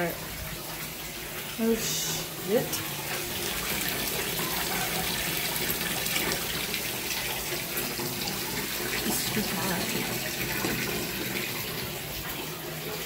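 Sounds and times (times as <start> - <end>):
water pouring into bathtub: 0.0 - 13.0.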